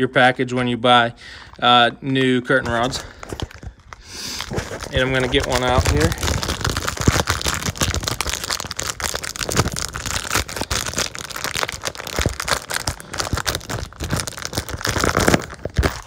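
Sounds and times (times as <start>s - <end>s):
plastic packaging crinkling: 1.3s - 16.0s.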